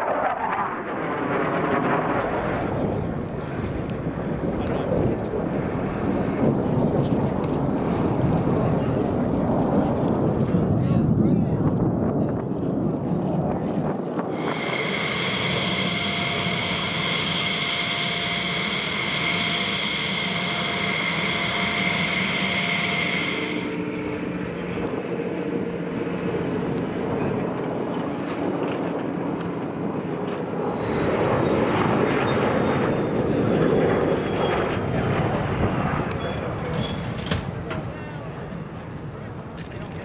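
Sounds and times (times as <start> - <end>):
high-pitched turbine whine: 0.0 - 9.4, 14.2 - 37.4
jet engine rush: 0.0 - 40.0.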